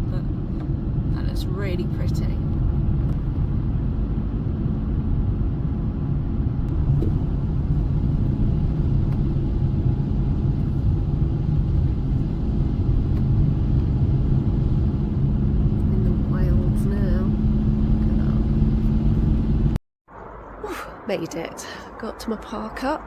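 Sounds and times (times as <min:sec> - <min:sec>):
van engine and tyre rumble: 0:00.0 - 0:23.0.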